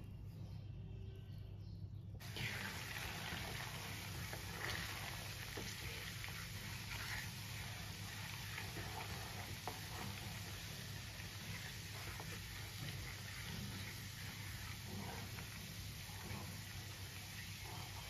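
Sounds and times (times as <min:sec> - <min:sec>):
ghee sizzling and bubbling: 0:02.2 - 0:18.0
wooden spatula scraping: 0:02.2 - 0:18.0.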